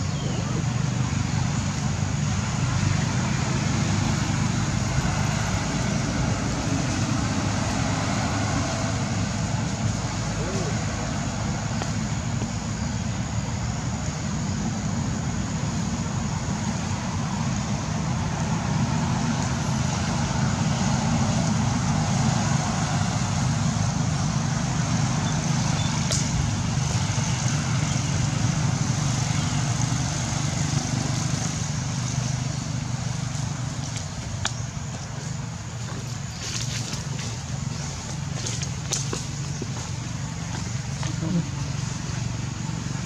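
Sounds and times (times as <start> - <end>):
engine running low rumble: 0.0 - 43.0.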